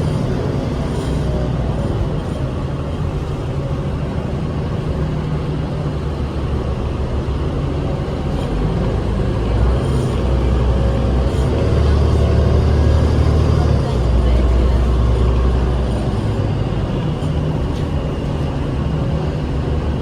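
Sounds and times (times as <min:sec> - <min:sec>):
bus diesel engine rumble: 0:00.0 - 0:20.0
road noise: 0:00.0 - 0:20.0.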